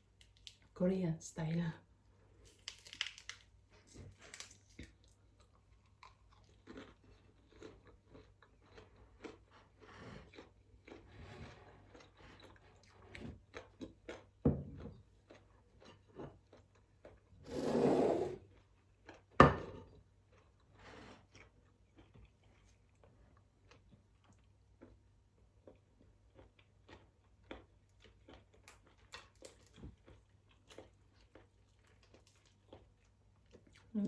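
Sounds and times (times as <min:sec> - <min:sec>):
chewing and crunching: 0:00.0 - 0:00.8, 0:02.1 - 0:17.4, 0:18.4 - 0:34.0.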